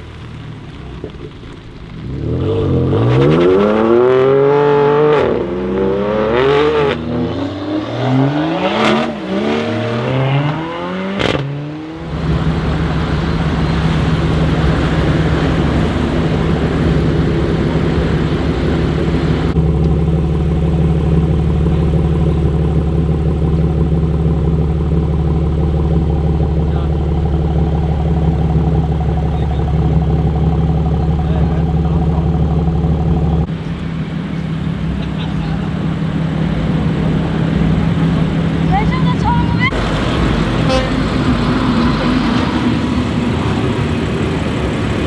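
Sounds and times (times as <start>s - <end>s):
car engine idling: 0.0s - 45.0s
car engine revving: 0.0s - 45.0s
exhaust crackles: 0.0s - 45.0s.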